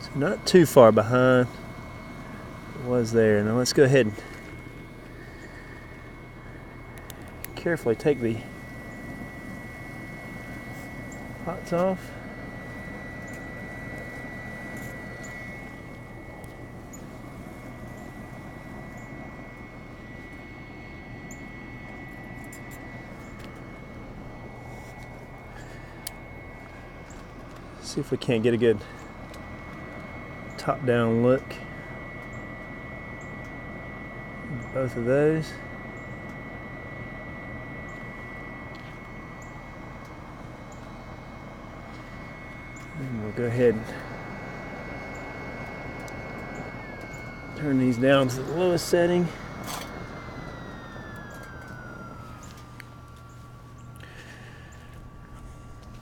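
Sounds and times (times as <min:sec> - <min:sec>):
stove fan and fire whirring: 0:00.0 - 0:56.0
thin high whine: 0:00.0 - 0:56.0.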